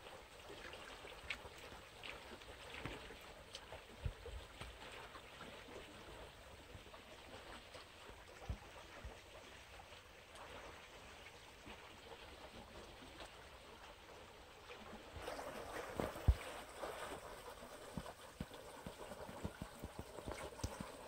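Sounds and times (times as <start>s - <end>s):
canal water flowing: 0.0s - 21.0s.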